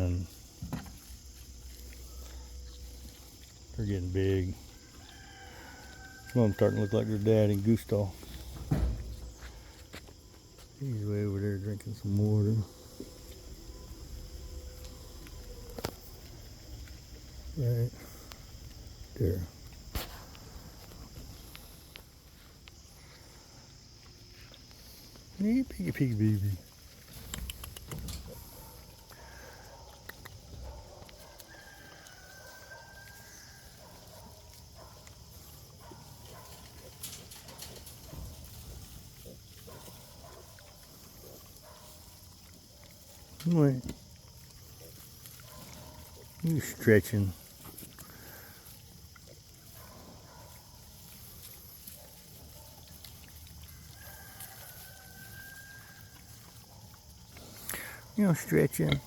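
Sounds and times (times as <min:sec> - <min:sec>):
faint farm animal sounds: 0:00.0 - 0:59.0
faint outdoor ambience: 0:00.0 - 0:59.0.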